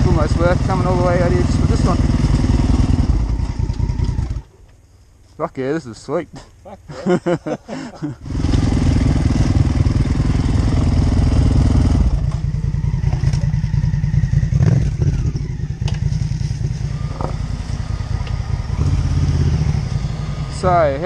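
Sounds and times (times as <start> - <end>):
dirt bike engine running: 0.0 - 4.5, 8.2 - 21.0.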